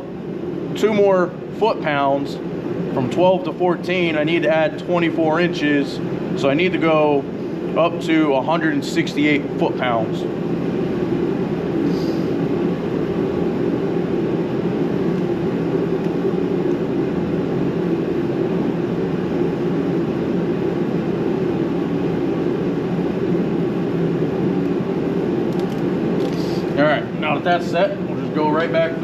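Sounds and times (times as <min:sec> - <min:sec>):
blower droning: 0:00.0 - 0:29.0.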